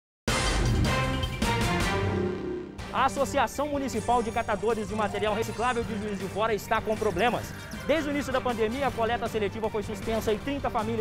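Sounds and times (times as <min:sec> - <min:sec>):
news theme music with heavy bass: 0:00.3 - 0:11.0.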